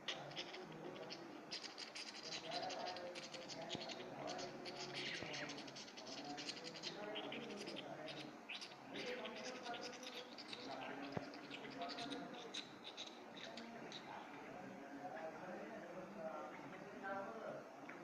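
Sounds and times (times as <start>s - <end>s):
lovebirds chattering: 0.0s - 14.5s.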